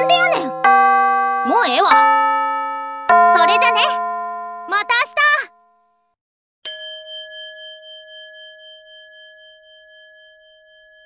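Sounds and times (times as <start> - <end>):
bell-like chime ringing: 0.0 - 5.9, 6.7 - 11.0.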